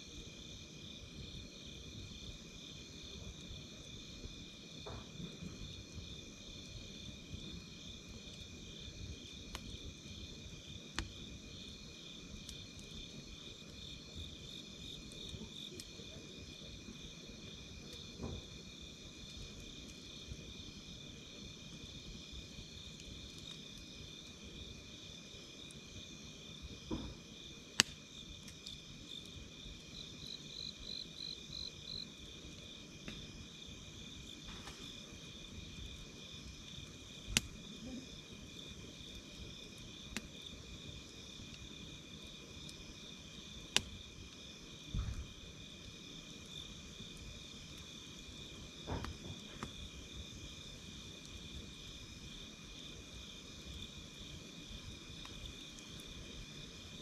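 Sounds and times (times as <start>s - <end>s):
campfire crackling and popping: 0.0s - 57.0s
crickets chirping: 0.0s - 57.0s.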